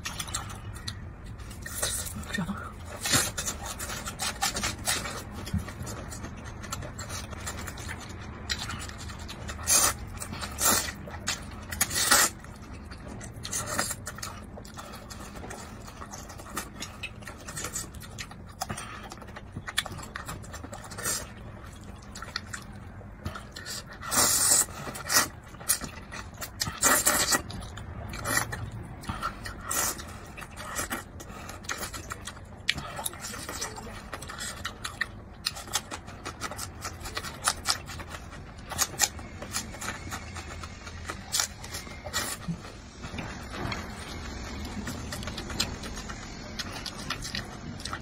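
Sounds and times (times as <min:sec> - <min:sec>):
wet chewing: 0:00.0 - 0:48.0.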